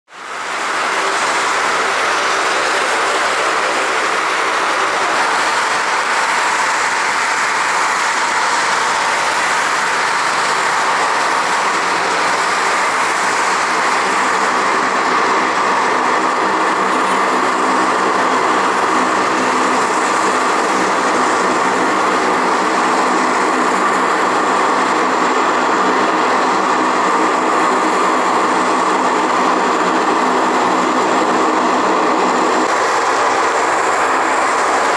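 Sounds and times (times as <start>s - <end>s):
aircraft engines roaring: 0.1s - 34.9s.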